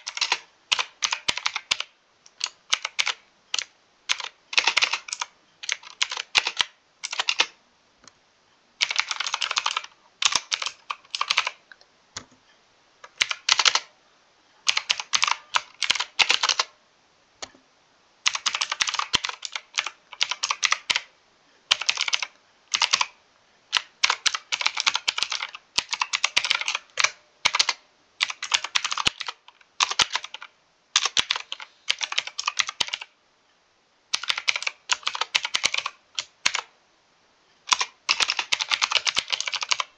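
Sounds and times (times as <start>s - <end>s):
mechanical keyboard typing: 0.0s - 7.6s, 8.8s - 11.6s, 13.0s - 13.9s, 14.7s - 16.7s, 18.2s - 21.1s, 21.7s - 33.2s, 34.1s - 36.7s, 37.7s - 39.9s.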